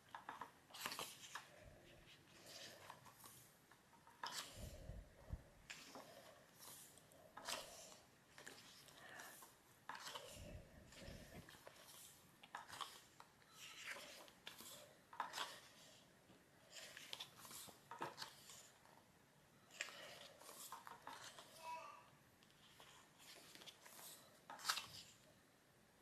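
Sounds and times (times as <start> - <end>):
book pages turning: 0.1 - 4.9, 5.6 - 16.0, 16.6 - 18.9, 19.7 - 21.6, 22.5 - 25.2.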